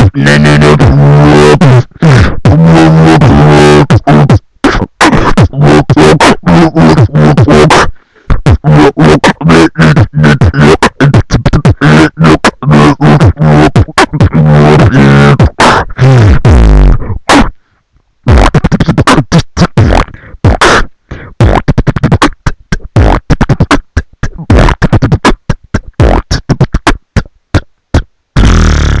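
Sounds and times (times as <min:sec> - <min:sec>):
humming vocal bass: 0:00.0 - 0:17.5, 0:18.3 - 0:27.7, 0:28.4 - 0:29.0
person beatboxing: 0:00.0 - 0:17.6, 0:18.3 - 0:29.0.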